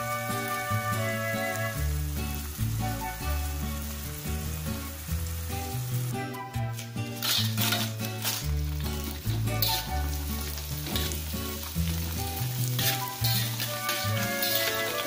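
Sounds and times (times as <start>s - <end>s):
background music with bass line: 0.0s - 15.0s
food sizzling in frying pan: 0.0s - 15.0s
hot oil sizzling in wok: 0.0s - 15.0s.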